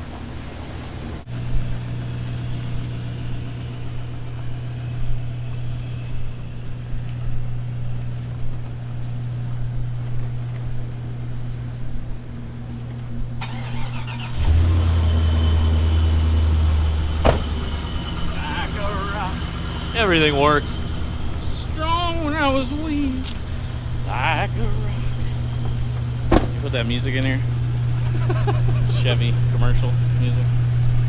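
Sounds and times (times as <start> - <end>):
deep engine hum: 0.0 - 31.0
vehicle engine running: 0.0 - 31.0.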